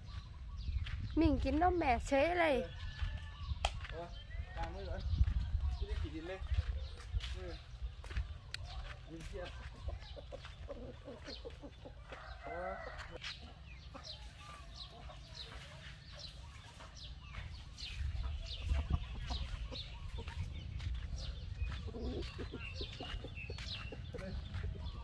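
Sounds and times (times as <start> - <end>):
small birds chirping: 0.0 - 25.0
chickens clucking: 3.0 - 25.0.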